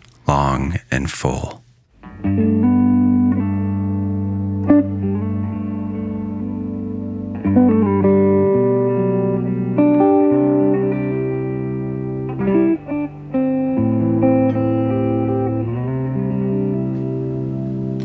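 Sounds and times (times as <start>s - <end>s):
guitar instrumental music: 2.0s - 18.0s.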